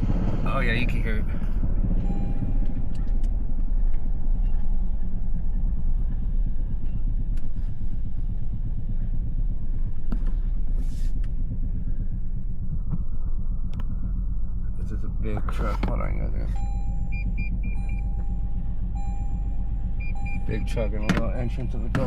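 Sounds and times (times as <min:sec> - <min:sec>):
engine running with knock: 0:00.0 - 0:22.0.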